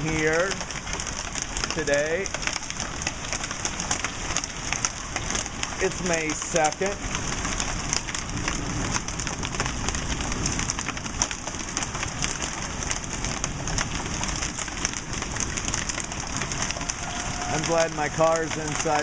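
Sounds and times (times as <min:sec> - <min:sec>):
hail pelting down: 0:00.0 - 0:19.0
rain-like hiss: 0:00.0 - 0:19.0.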